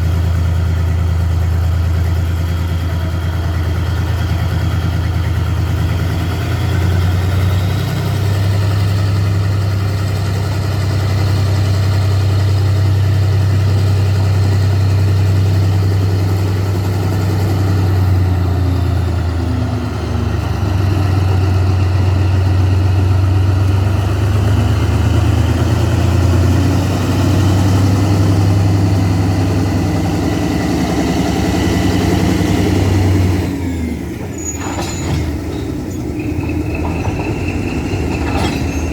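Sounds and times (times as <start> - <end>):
diesel locomotive engine humming: 0.0 - 38.9.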